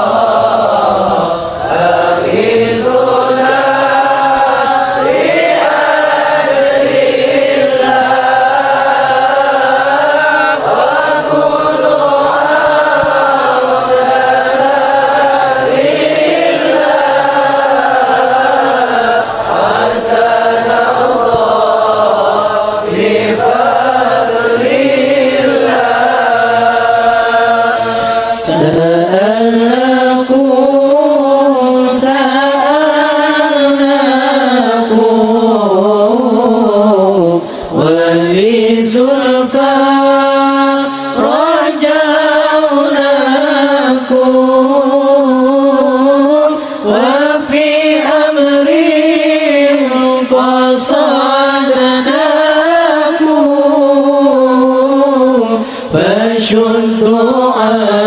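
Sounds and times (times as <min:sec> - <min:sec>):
person chanting: 0:00.0 - 0:58.0.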